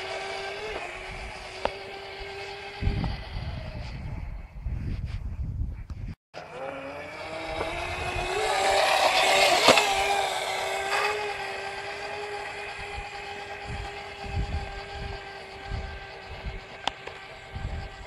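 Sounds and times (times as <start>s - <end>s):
electric scooter motor whining: 0.0s - 4.6s, 6.4s - 18.0s.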